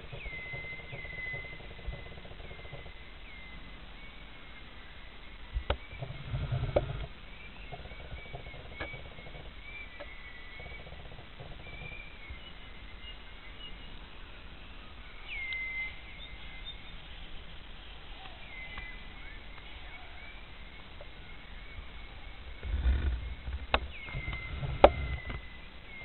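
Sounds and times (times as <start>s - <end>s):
birds chirping: 0.0s - 26.0s
outdoor ambience: 0.0s - 26.0s.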